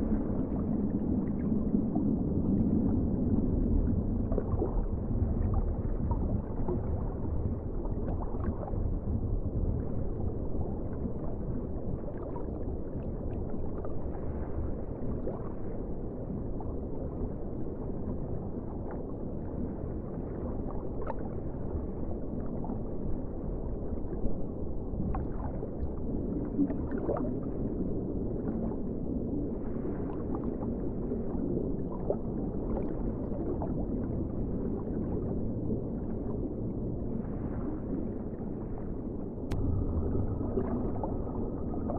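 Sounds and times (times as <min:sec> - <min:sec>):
underwater low rumble: 0:00.0 - 0:41.9.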